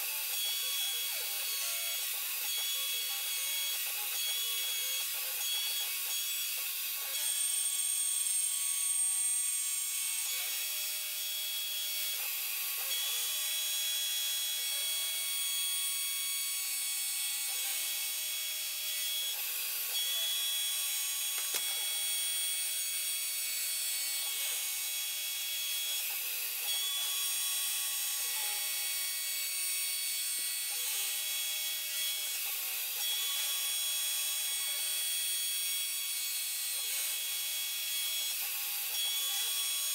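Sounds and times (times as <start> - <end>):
cnc router milling metal: 0.0 - 39.9.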